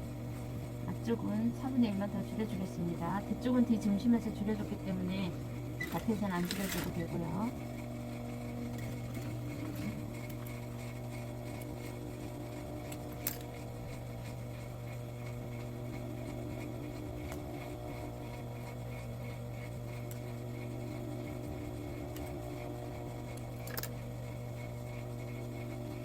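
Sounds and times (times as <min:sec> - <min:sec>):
sewing machine motor humming: 0:00.0 - 0:26.0.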